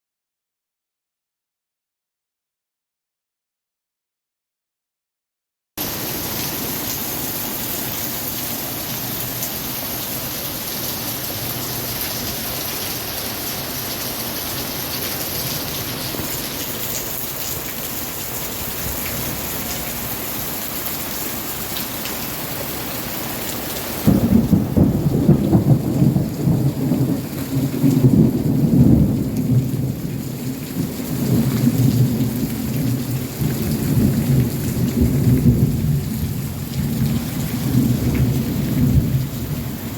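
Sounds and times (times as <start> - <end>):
steady rain: 5.8 - 39.9.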